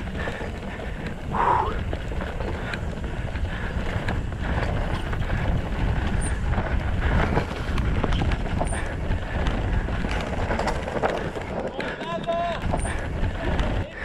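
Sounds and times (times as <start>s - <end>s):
bike knocks and rattles: 0.0s - 14.0s
bike tyre noise on dirt: 0.0s - 14.0s
wind buffeting microphone: 0.0s - 14.0s.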